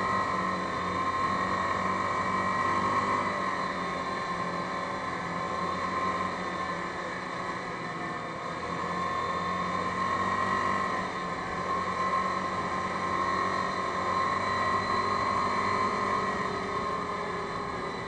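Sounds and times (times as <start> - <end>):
quad bike engine droning: 0.0 - 18.0.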